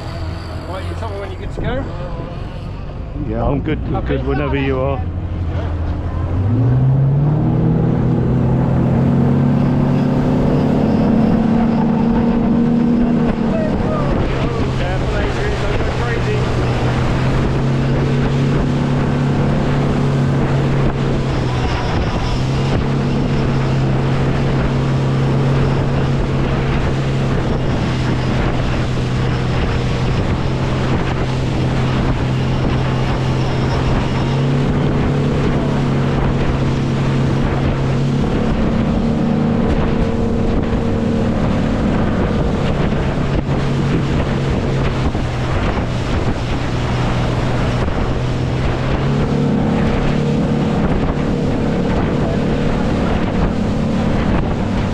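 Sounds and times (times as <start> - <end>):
boat engine humming: 0.0 - 54.9
water rushing past hull: 0.0 - 54.9
wind buffeting microphone: 0.0 - 54.9.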